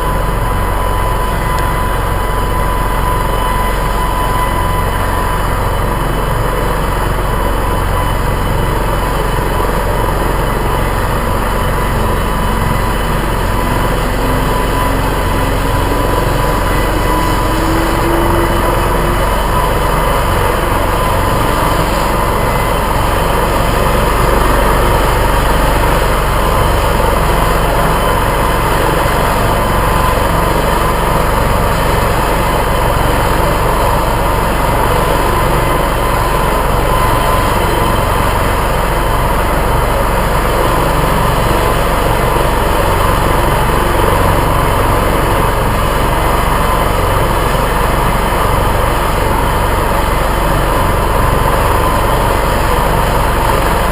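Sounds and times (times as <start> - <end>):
helicopter turbine and rotor: 0.0 - 53.9.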